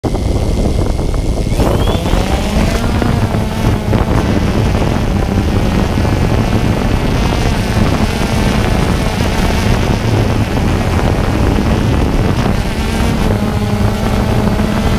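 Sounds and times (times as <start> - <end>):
drone propellers buzzing: 0.0 - 14.9
propeller wash rushing: 0.0 - 14.9.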